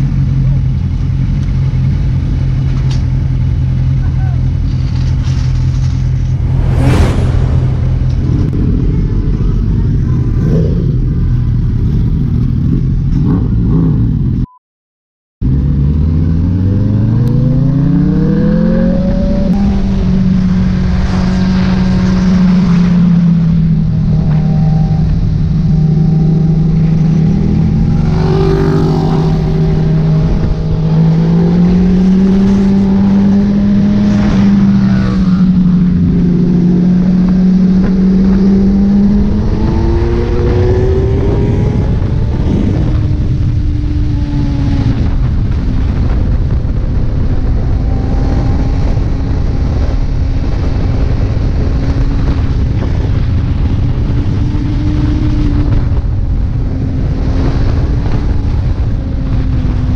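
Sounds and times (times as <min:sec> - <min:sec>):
wind rush: 0:05.6 - 0:11.1, 0:16.5 - 0:59.9.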